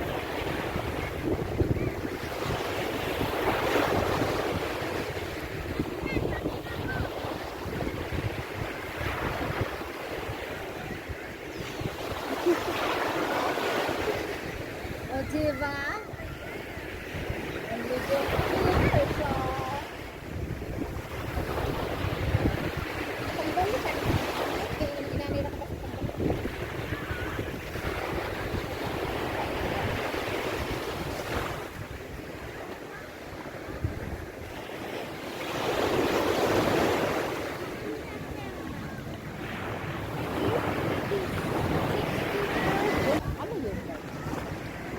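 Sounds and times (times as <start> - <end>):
sea waves breaking on beach: 0.0 - 44.9
wind rumbling on microphone: 0.0 - 44.9.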